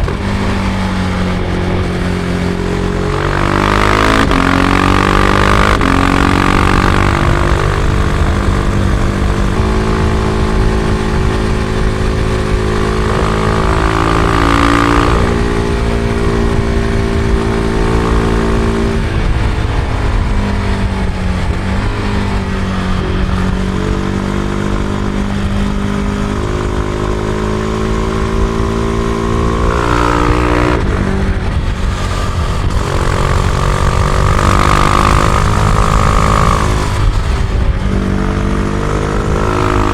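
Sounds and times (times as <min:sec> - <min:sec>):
motorcycle engine shifting gears: 0:00.0 - 0:39.9
wind and road noise: 0:00.0 - 0:39.9.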